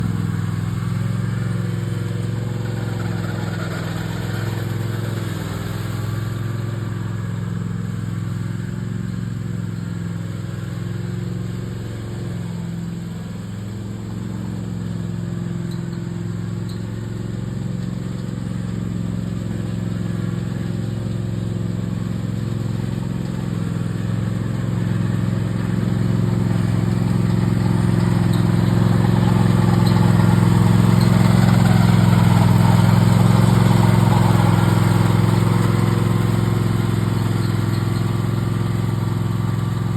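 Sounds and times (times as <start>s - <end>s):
lawn mower running: 0.0s - 39.9s.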